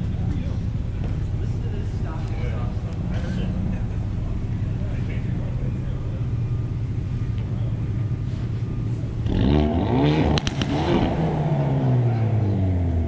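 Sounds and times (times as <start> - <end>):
exhaust cracks: 0.0 - 12.6
car engine idling and revving: 0.0 - 13.0.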